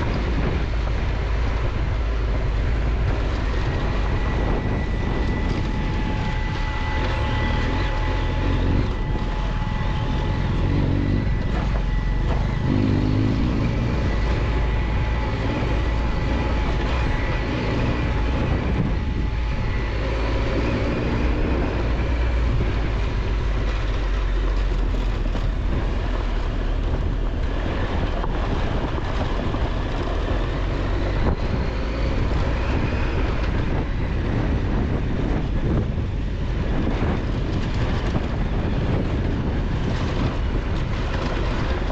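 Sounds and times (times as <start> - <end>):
motorcycle engine running: 0.0 - 41.9
wind and road hiss: 0.0 - 41.9.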